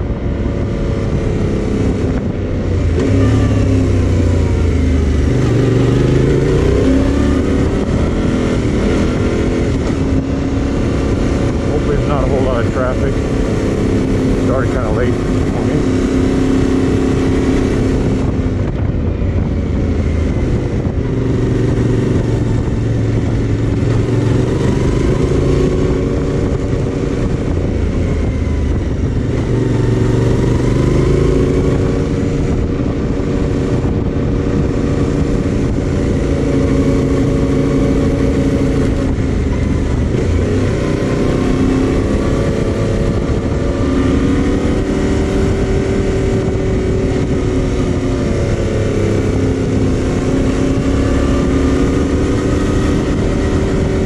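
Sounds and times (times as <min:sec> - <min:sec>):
motorcycle engine running: 0:00.0 - 0:54.0
steady rushing noise: 0:00.0 - 0:54.0.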